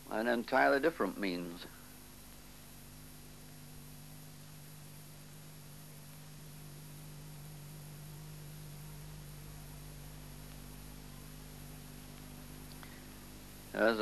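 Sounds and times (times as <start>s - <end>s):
low electrical hum: 0.0s - 14.0s
tape hiss: 0.0s - 14.0s.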